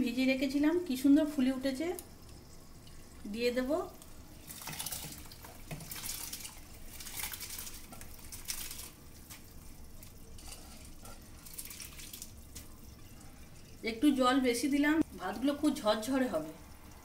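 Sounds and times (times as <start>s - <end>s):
water pouring into a pot: 0.8s - 17.0s.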